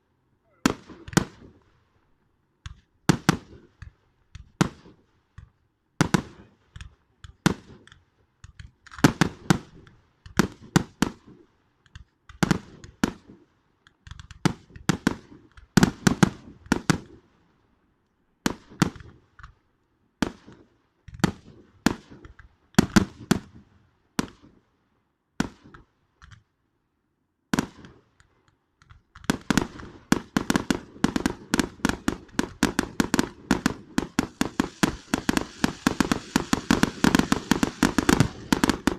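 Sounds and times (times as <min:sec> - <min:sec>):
fireworks bangs and crackling: 0:00.5 - 0:01.9, 0:02.7 - 0:17.4, 0:18.4 - 0:19.4, 0:20.2 - 0:24.6, 0:27.5 - 0:28.1, 0:29.1 - 0:38.9.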